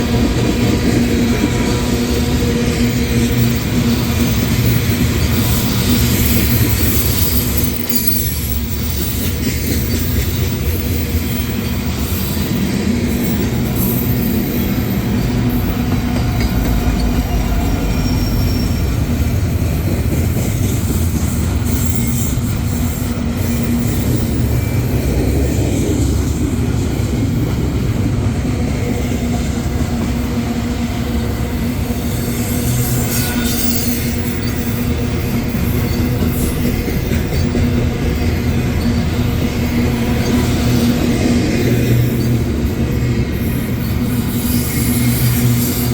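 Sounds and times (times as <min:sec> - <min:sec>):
freight train wheels rumbling on rails: 0:00.0 - 0:45.9.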